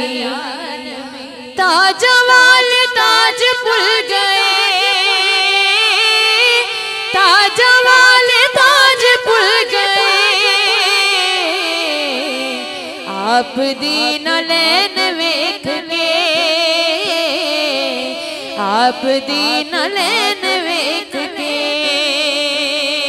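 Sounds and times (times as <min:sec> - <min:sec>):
woman singing melismatic passage: 0:00.0 - 0:23.0.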